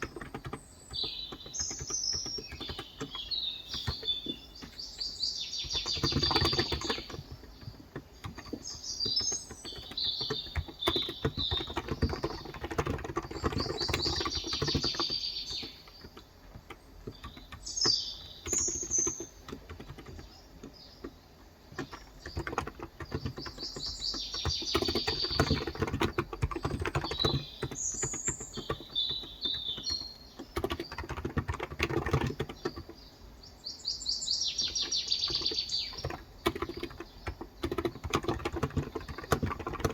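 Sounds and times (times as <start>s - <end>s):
rapid keyboard typing: 0.0s - 33.3s, 34.4s - 39.9s
small birds chirping: 0.0s - 39.9s.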